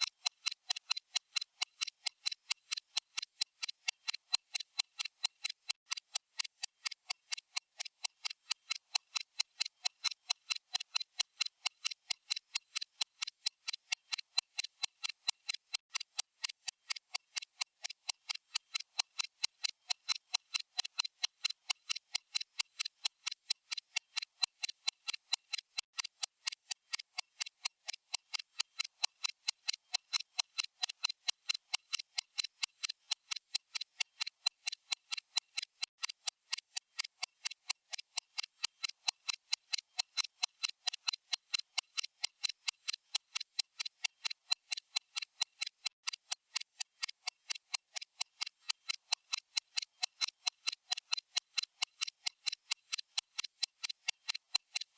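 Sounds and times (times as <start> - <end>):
stopwatch ticking: 0.0 - 54.9.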